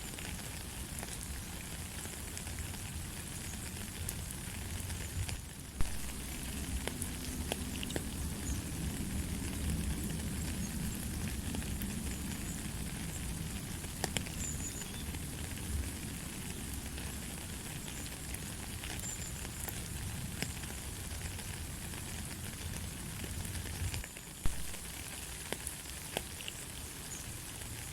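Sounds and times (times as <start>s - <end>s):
light rain falling: 0.0s - 27.9s.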